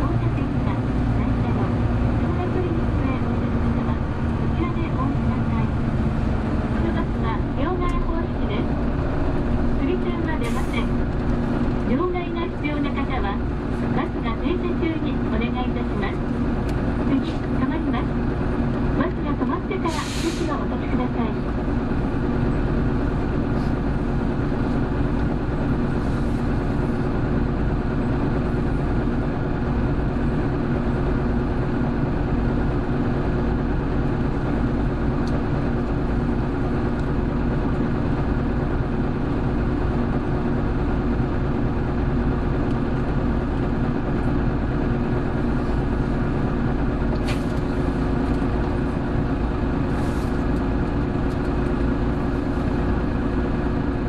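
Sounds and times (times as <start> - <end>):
bus engine droning: 0.0 - 54.0
road noise: 0.0 - 54.0.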